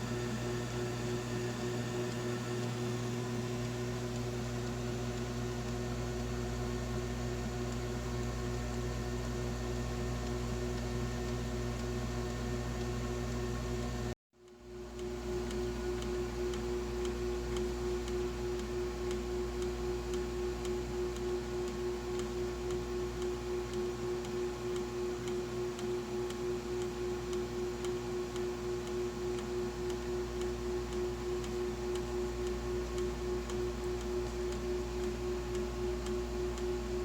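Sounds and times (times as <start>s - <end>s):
water pump humming and ticking: 0.0s - 37.0s.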